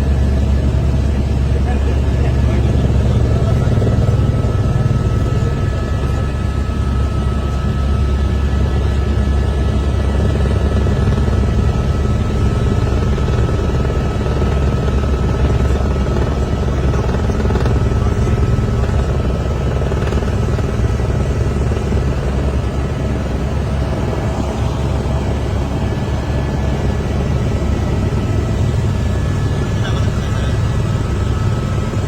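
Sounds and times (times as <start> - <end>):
helicopter rotor and engine drone: 0.0 - 32.0.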